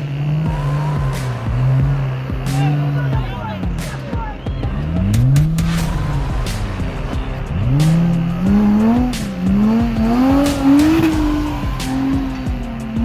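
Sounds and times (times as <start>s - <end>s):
engine revving hard: 0.0s - 4.1s, 4.7s - 13.0s.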